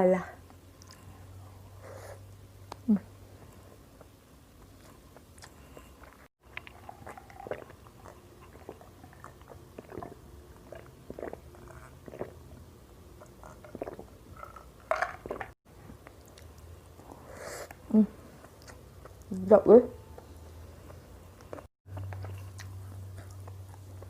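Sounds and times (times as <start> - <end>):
chewing and wet mouth noises: 0.5 - 1.5, 3.5 - 17.8, 18.4 - 19.4, 20.2 - 24.0.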